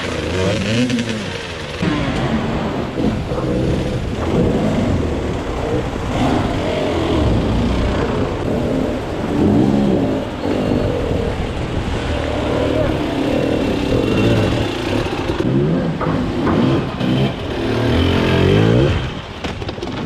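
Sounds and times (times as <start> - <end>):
motorcycle engine revving: 0.0 - 19.4.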